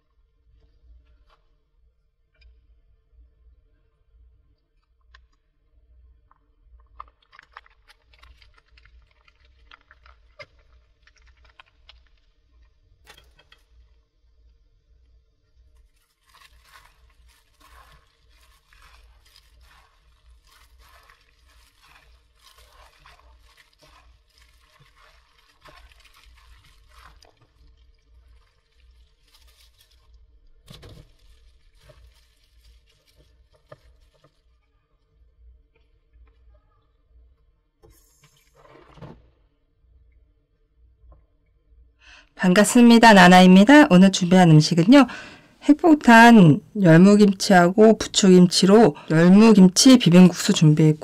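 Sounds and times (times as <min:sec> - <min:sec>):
glove mixing wet noodles: 0:05.5 - 0:37.8, 0:42.4 - 0:51.0.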